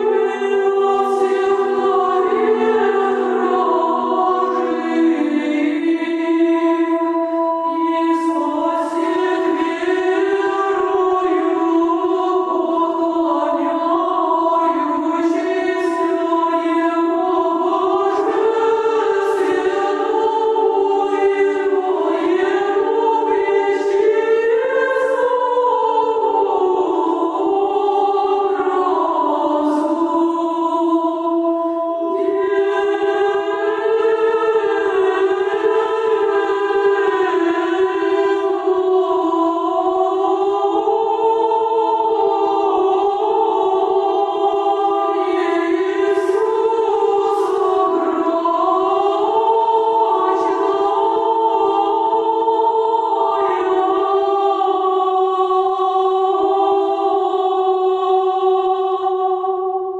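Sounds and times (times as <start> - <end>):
women's choir singing: 0.0 - 59.9.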